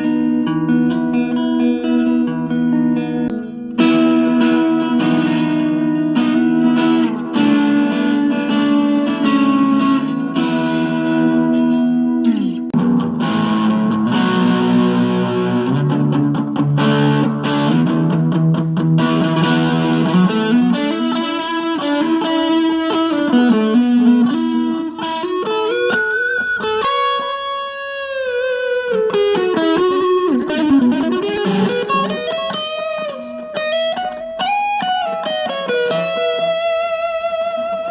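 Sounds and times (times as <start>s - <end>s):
distorted electric guitar: 0.0s - 37.9s.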